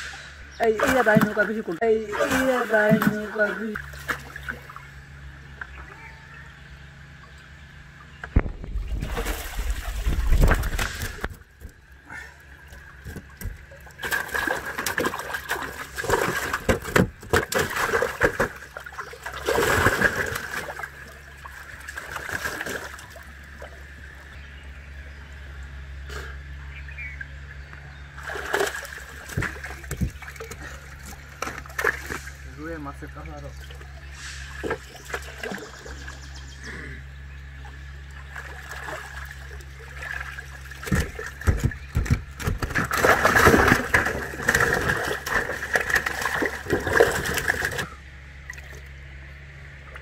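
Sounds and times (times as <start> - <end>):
water splashing and sloshing: 0.0 - 6.0, 7.2 - 24.4, 27.2 - 36.7, 37.4 - 50.0
steady low hum: 0.0 - 50.0.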